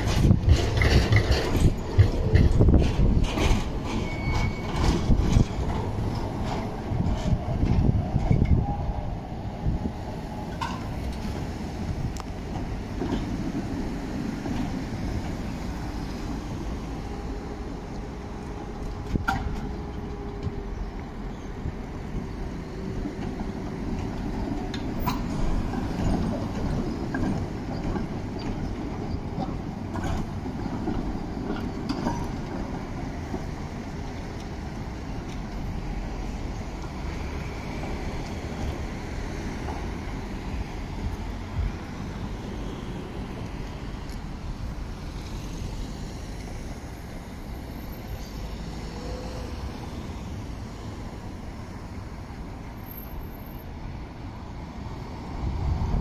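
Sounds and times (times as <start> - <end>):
road traffic: 0.0 - 56.0
tram running rumble: 0.0 - 56.0
tram wheels clacking over rail joints: 0.0 - 56.0.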